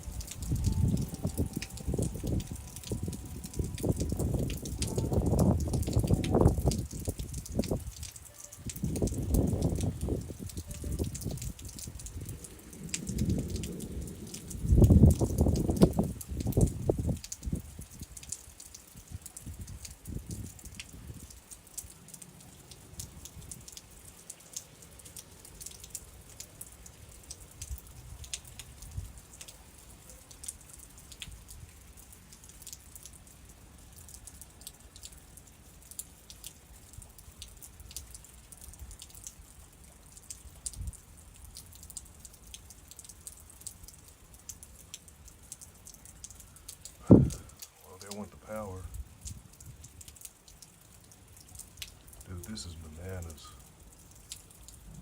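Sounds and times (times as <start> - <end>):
raindrops ticking on surfaces: 0.0 - 55.0.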